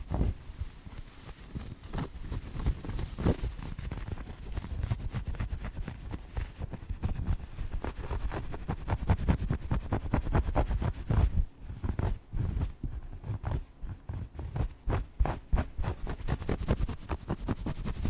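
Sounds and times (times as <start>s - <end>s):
scratching and brushing on microphone: 0.0s - 18.0s.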